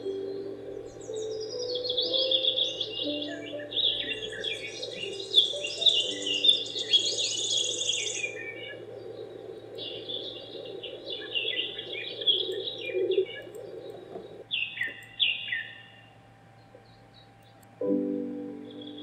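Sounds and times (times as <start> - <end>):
birds chirping falling calls: 0.0 - 17.9.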